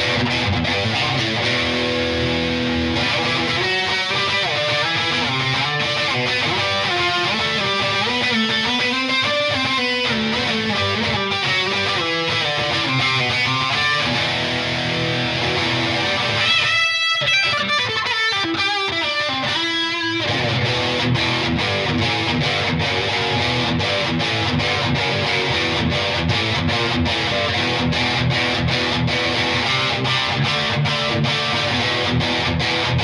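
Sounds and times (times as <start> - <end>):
distorted electric guitar: 0.0 - 33.0.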